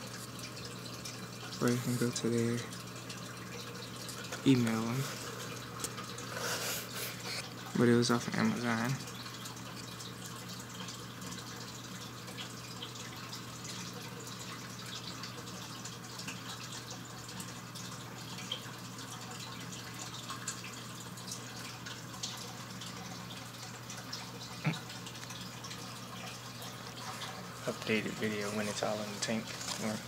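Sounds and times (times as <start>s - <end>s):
trickling dripping water: 0.0s - 30.0s.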